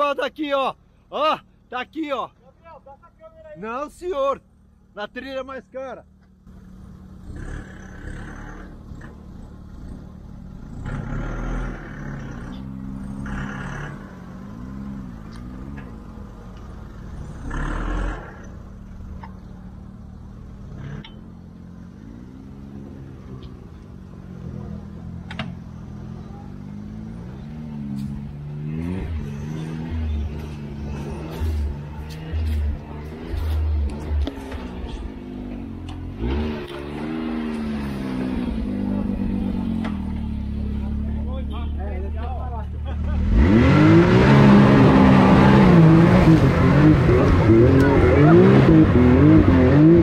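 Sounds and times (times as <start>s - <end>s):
engine revving: 6.5s - 19.0s, 20.4s - 50.0s.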